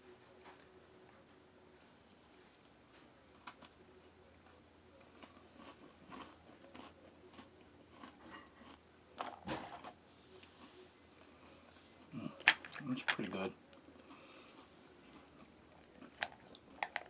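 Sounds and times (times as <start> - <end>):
crunching and chewing cracker: 3.3 - 17.0.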